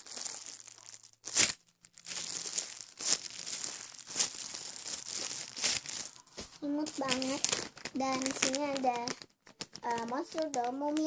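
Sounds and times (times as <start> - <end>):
plastic packaging crinkling: 0.0 - 11.0
sharp plastic crackles: 0.0 - 11.0.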